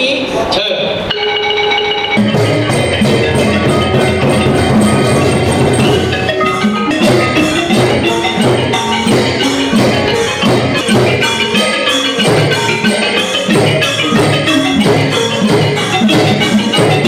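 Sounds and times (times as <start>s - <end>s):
gong circles: 1.1s - 17.0s
xylophone runs: 1.1s - 17.0s
steady drumbeat: 2.0s - 17.0s.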